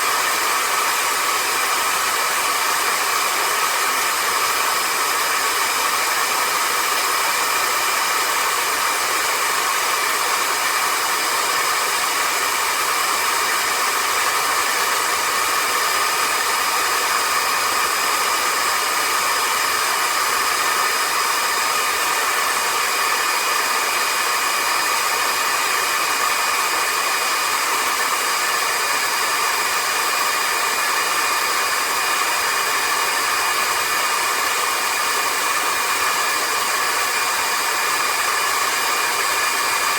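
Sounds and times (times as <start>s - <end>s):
stick vacuum cleaner running: 0.0s - 39.9s.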